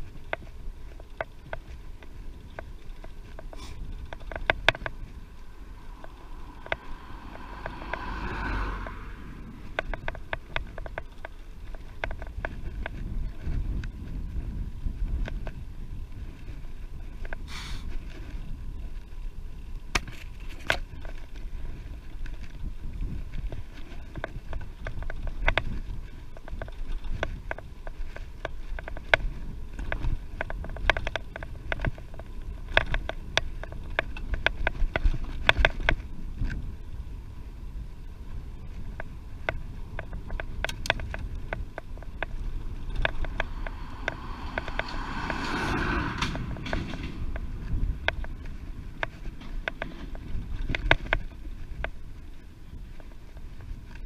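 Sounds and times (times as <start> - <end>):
bicycle clicks and rattles: 0.0 - 54.0
wind buffeting microphone: 0.0 - 54.0.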